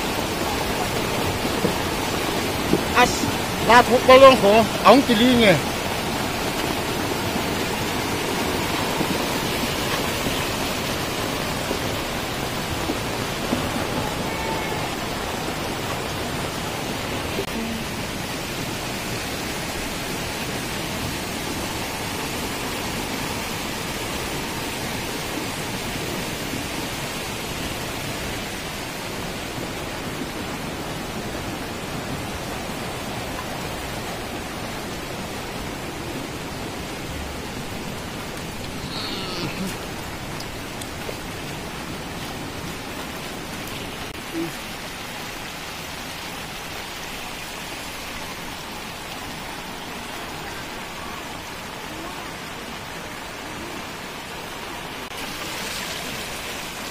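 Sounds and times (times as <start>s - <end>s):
floodwater rushing: 0.0s - 56.9s
heavy rain: 0.0s - 56.9s.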